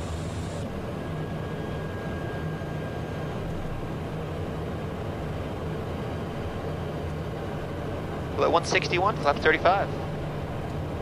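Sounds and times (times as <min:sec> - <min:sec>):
jet engine hum: 0:00.0 - 0:11.0.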